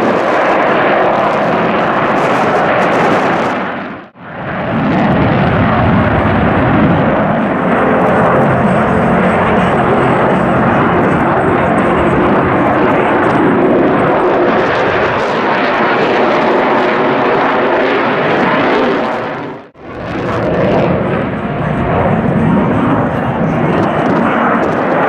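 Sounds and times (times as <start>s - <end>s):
fighter jet roar overhead: 0.0s - 25.0s.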